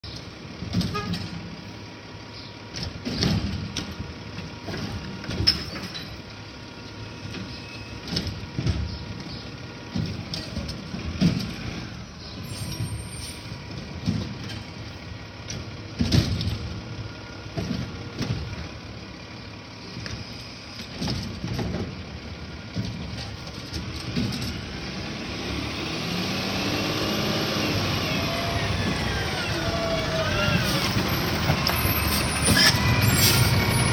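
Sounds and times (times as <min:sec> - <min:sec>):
recycling truck running: 0:00.0 - 0:33.9.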